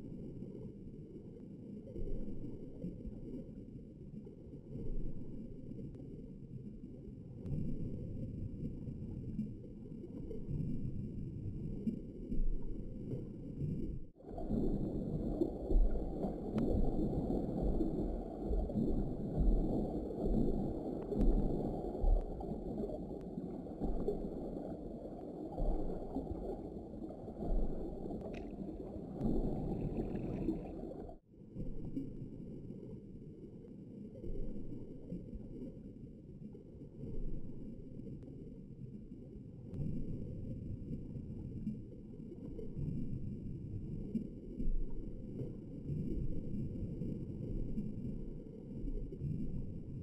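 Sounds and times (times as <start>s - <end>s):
underwater rumble and wash: 0.0s - 50.0s.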